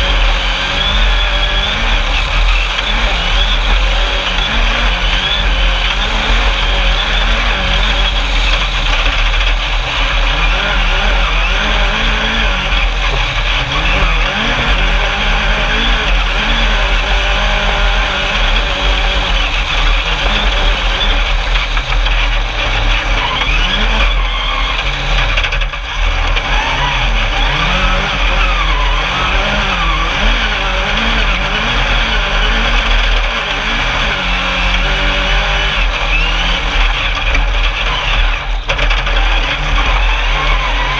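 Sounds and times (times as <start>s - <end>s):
race buggy engine revving: 0.0s - 40.9s
tyre noise: 0.0s - 40.9s.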